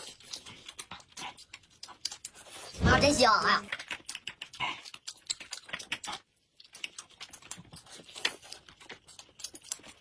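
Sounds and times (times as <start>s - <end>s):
close chewing: 0.0s - 10.0s.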